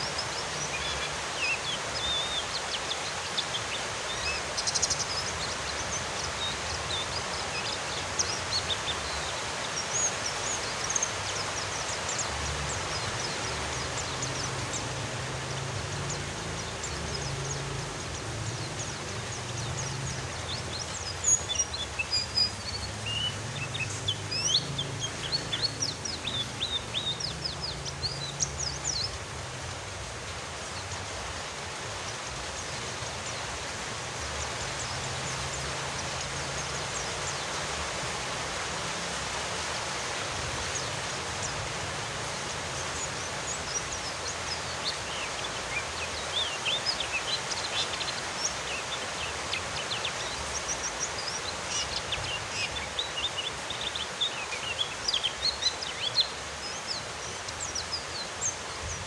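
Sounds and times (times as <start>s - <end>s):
birds chirping and twittering: 0.0s - 59.0s
steady rain hiss: 0.0s - 59.0s.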